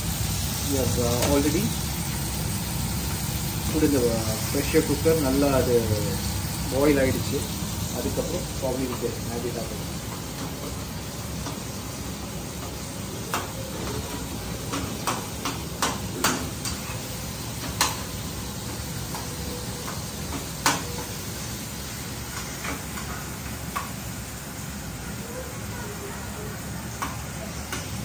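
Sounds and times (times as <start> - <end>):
food sizzling in pan: 0.0 - 28.0.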